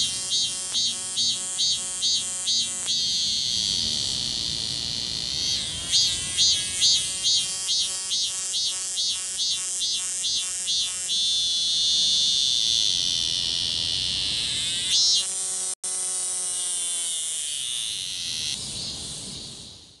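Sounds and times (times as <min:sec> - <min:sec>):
cicada buzzing: 0:00.0 - 0:20.0.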